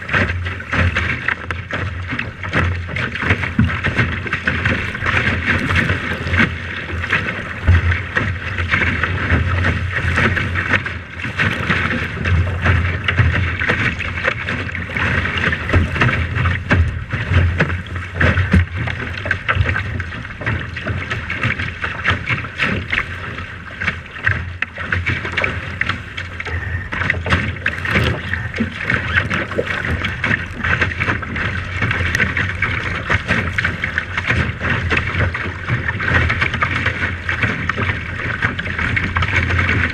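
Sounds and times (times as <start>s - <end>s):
water noise from boat: 0.0s - 39.9s
wind: 0.0s - 39.9s
wind buffeting microphone: 2.1s - 39.9s.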